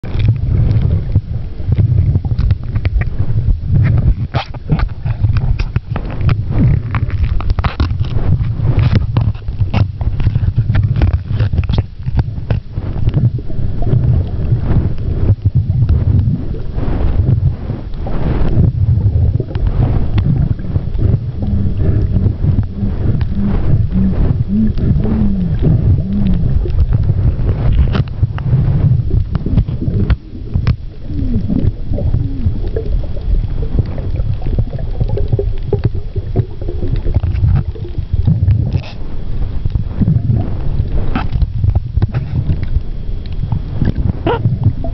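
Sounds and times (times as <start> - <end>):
clicks and crackles: 0.0 - 44.9
underwater low rumble: 0.0 - 44.9.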